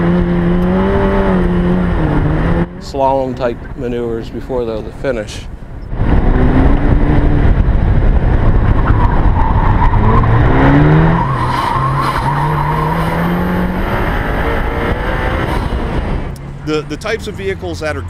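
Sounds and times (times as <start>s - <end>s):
sports car engine revving: 0.0s - 2.9s, 5.9s - 18.0s.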